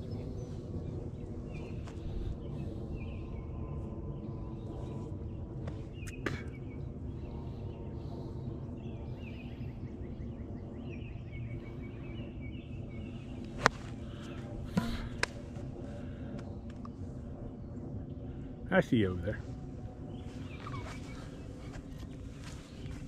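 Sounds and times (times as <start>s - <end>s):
birds chirping: 0.0s - 23.0s
outdoor background noise: 0.0s - 23.0s.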